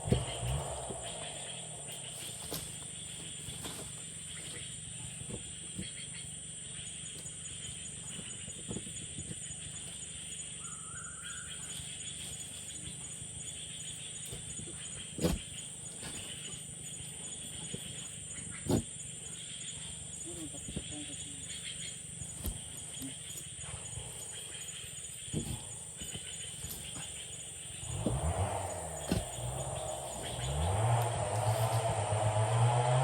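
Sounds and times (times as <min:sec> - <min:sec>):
insect drone: 0:00.0 - 0:33.0.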